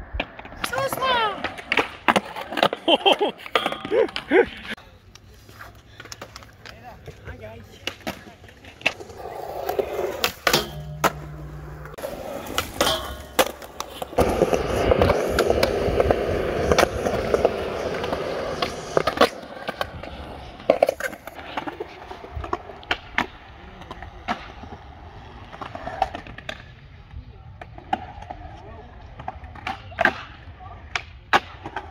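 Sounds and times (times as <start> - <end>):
skateboard wheels rolling: 0.0 - 31.9
skateboards clacking: 0.0 - 31.9.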